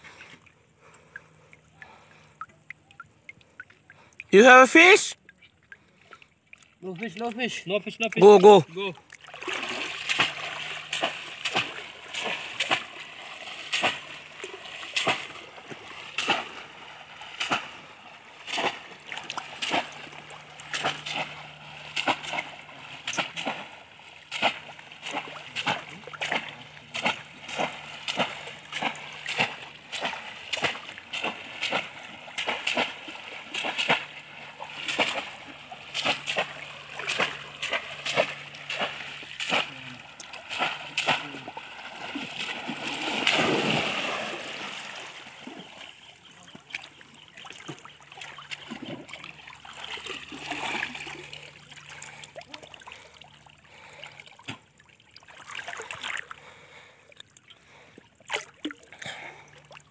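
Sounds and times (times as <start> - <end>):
fish traps splashing into water: 0.0 - 59.9
men wading through water: 0.0 - 59.9.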